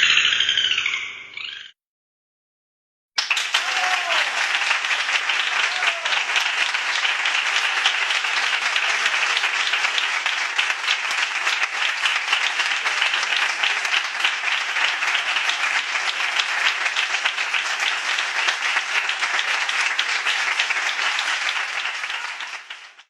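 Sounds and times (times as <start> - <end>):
hands clapping: 3.2 - 23.0.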